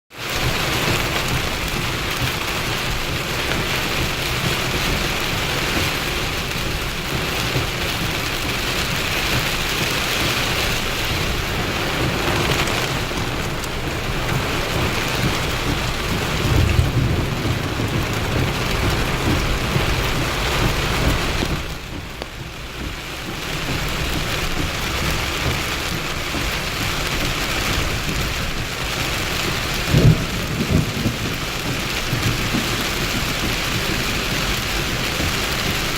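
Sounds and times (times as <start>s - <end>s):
heavy rain falling: 0.1s - 35.9s
thunder rumbling: 0.4s - 35.9s.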